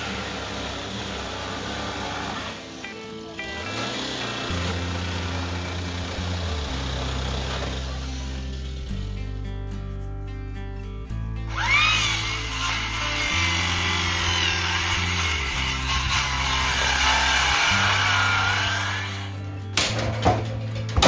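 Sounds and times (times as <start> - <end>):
power saw cutting: 0.0 - 9.0, 11.5 - 19.5
background music with bass line: 0.0 - 21.0.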